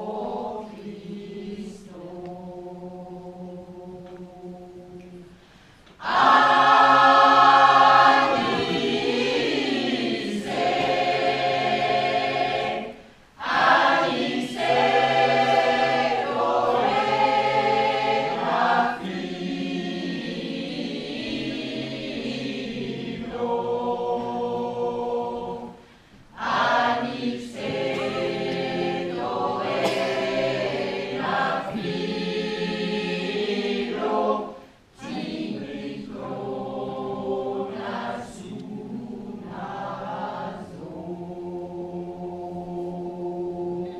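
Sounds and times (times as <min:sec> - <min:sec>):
mixed choir singing: 0:00.0 - 0:43.9.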